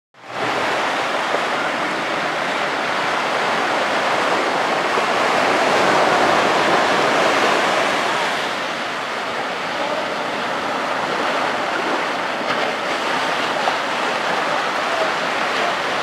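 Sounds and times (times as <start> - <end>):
sea surf breaking on beach: 0.2 - 16.0.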